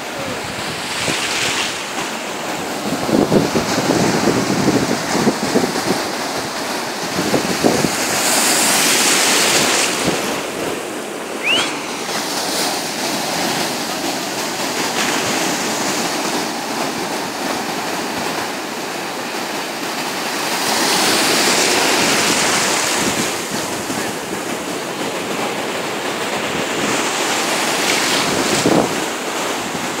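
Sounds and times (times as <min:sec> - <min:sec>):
sea surf breaking on shore: 0:00.0 - 0:30.0.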